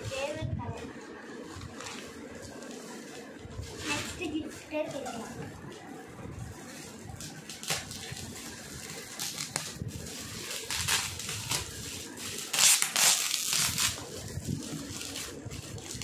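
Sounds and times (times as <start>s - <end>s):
metallic gift-wrap paper crinkling: 1.4s - 5.8s, 6.5s - 16.0s.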